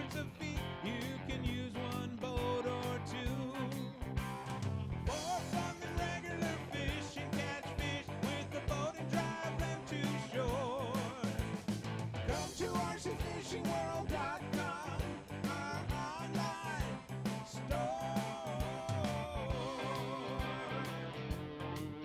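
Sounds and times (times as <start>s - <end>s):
person singing: 0.0s - 4.1s, 5.1s - 11.6s, 12.3s - 22.0s
steady drum beat: 0.0s - 21.5s
rock guitar: 0.0s - 22.0s.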